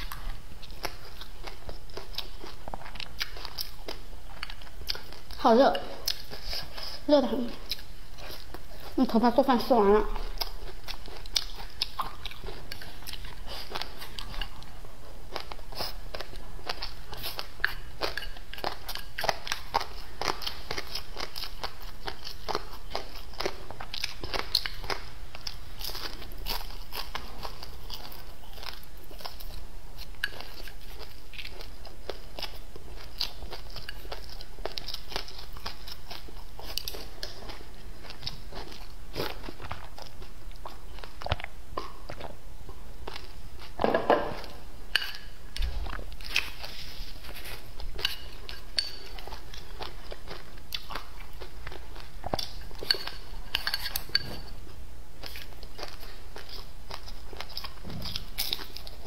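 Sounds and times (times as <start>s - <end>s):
chewing rice: 0.0s - 59.0s.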